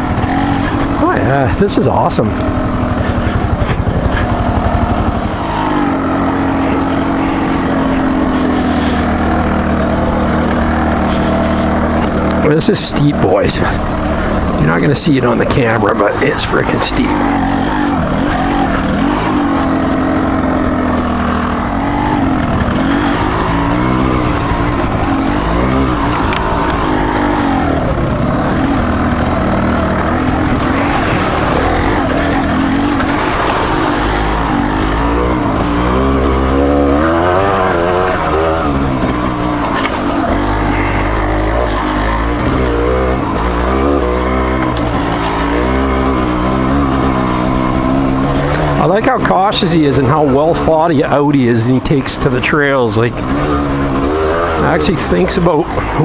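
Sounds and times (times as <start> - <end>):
motorcycle engine revving under load: 0.0 - 56.0.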